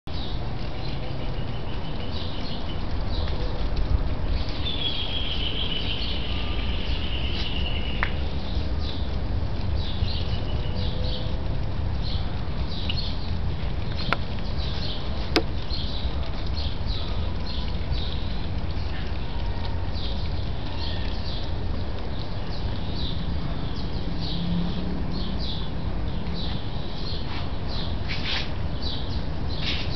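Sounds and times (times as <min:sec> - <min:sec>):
small birds chirping: 0:00.1 - 0:29.9.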